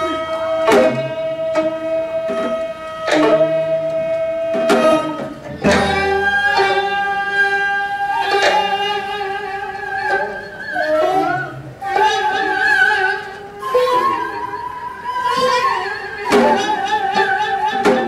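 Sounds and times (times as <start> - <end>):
wavering held melody notes: 0.0 - 18.0
zithers plucking: 0.0 - 18.0.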